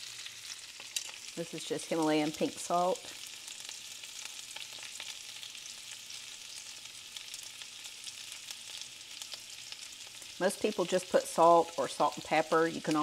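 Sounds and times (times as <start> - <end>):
potatoes sizzling in grease: 0.0 - 13.0.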